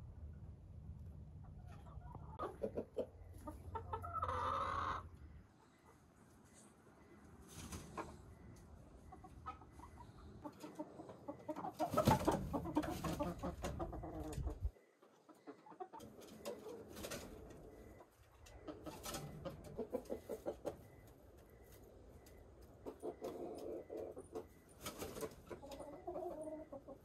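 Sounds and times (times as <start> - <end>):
chickens clucking: 1.3 - 27.0.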